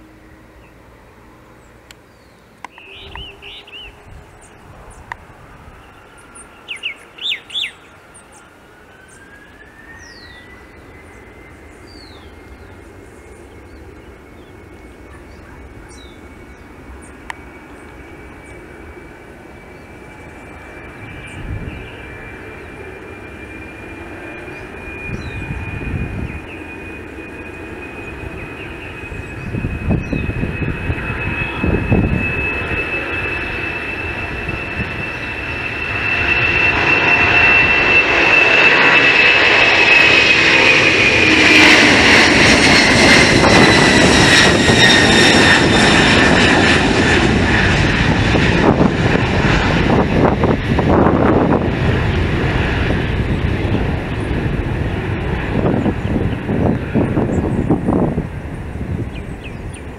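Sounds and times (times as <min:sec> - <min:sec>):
high fan whine: 0:00.0 - 0:59.9
jet engines roaring at takeoff: 0:00.0 - 0:59.9.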